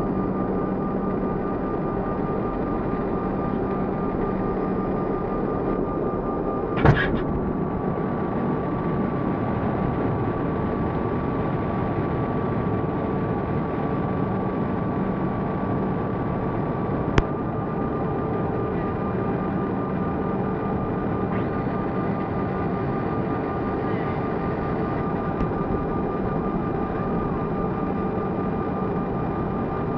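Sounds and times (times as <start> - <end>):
airliner cabin engine noise: 0.0 - 29.9.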